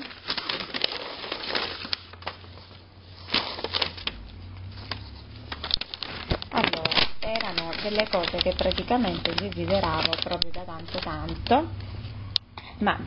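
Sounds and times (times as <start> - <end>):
paper and cardboard rustling: 0.0 - 12.3.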